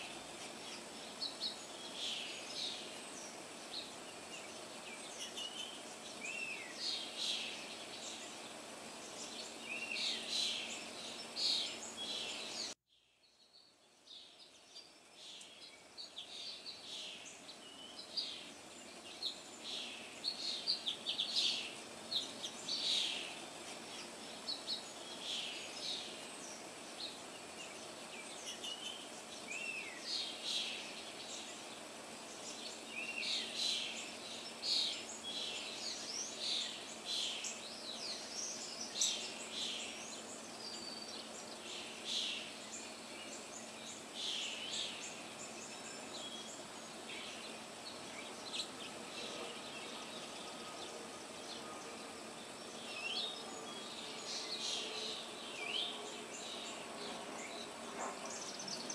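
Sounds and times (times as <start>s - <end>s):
small birds chirping: 0.0s - 58.9s
steady background hiss: 0.0s - 58.9s.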